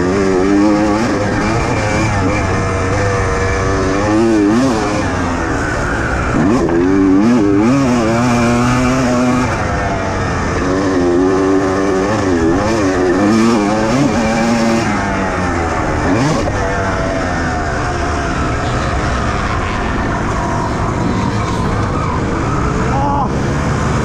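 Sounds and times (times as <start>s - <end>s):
motocross bike engine revving: 0.0s - 24.0s
rushing wind: 0.0s - 24.0s.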